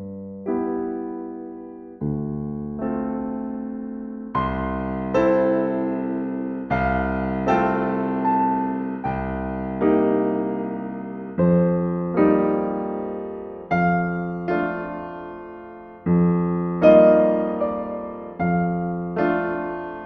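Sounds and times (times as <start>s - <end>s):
gentle solo piano chords: 0.0s - 20.0s.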